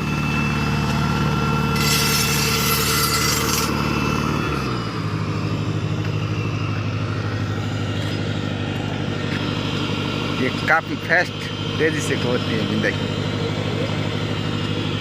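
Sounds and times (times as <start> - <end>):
rock drill engine pulsing: 0.0 - 15.0.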